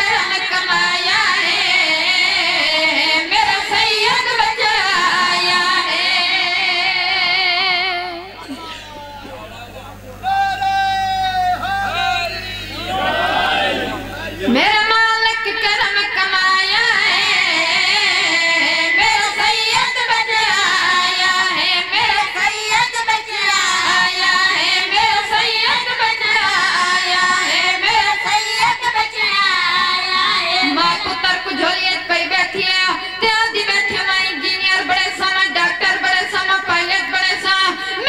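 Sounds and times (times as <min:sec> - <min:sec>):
boys singing devotional chant: 0:00.0 - 0:09.0, 0:09.6 - 0:38.0.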